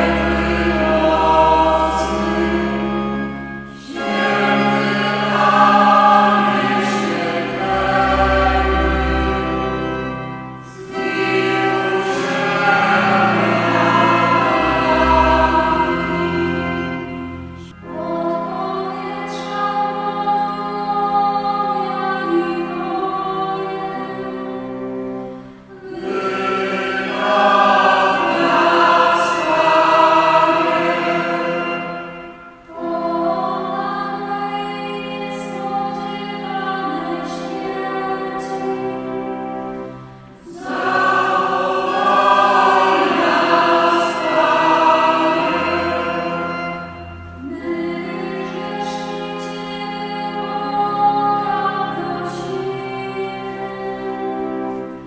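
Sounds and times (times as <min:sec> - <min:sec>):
choir singing: 0:00.0 - 0:55.0
electronic organ chords: 0:00.0 - 0:55.0.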